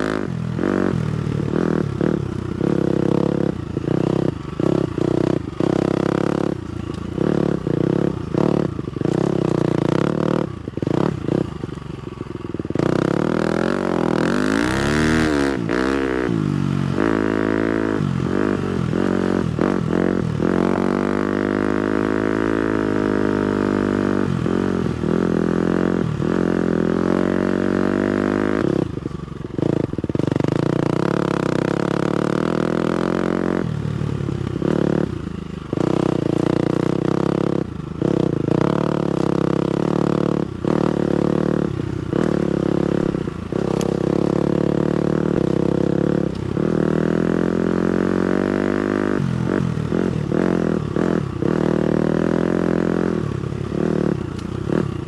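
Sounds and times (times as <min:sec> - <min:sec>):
dirt bike engine revving: 0:00.0 - 0:11.7, 0:12.6 - 0:55.0.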